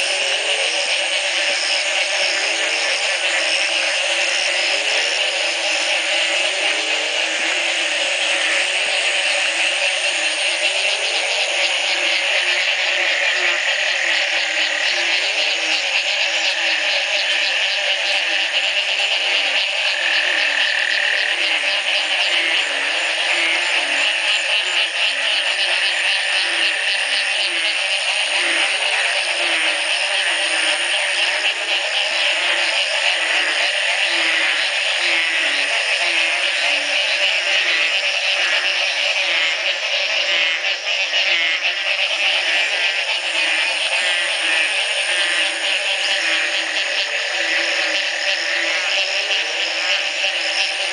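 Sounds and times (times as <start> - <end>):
chorus of frogs calling: 0.0 - 50.9.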